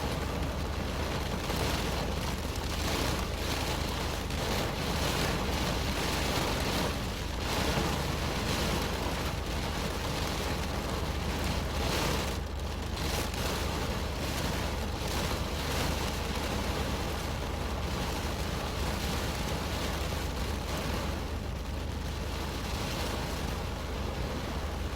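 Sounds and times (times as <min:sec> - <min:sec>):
rain drumming on car roof: 0:00.0 - 0:24.9.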